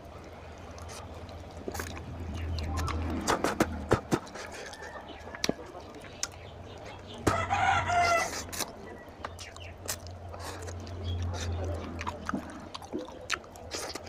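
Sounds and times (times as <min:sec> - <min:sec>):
wet eating clicks and smacks: 0:00.2 - 0:07.4, 0:08.1 - 0:14.0.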